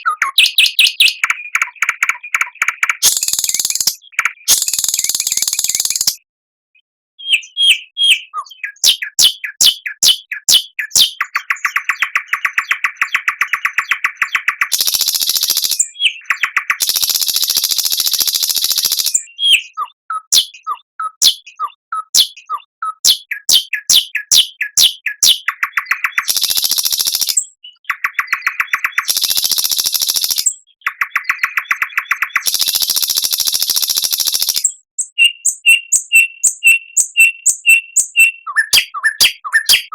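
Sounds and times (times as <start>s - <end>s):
recorded songbird song: 0.0s - 39.9s.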